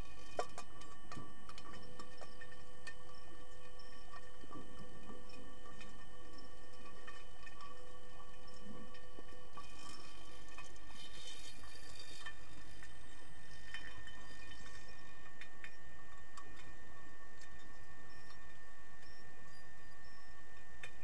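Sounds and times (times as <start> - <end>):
faint steady tones: 0.0 - 21.0.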